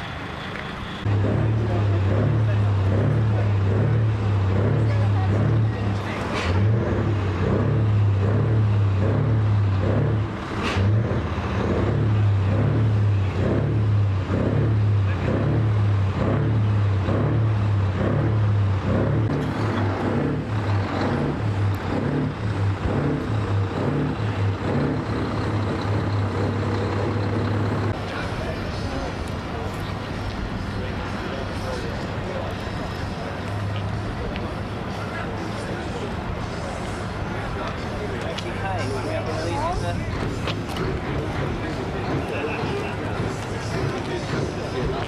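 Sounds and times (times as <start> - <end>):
large engine humming: 0.0 - 45.0.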